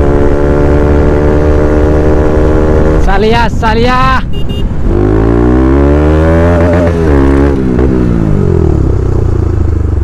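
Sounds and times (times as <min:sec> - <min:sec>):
motorcycle engine accelerating: 0:00.0 - 0:03.4, 0:04.4 - 0:10.0.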